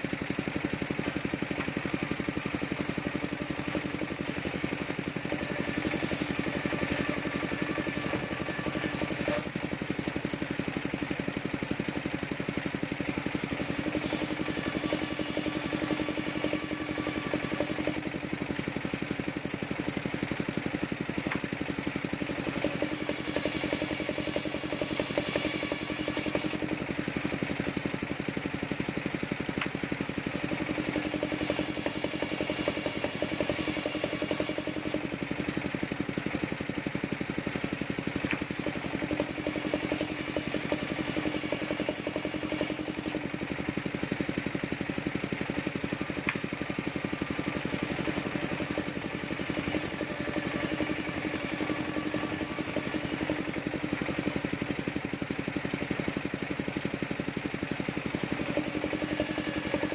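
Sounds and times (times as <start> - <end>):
circular saw engine running: 0.0 - 59.9
saw blade cutting whine: 0.8 - 43.7, 45.3 - 56.1, 57.3 - 59.9.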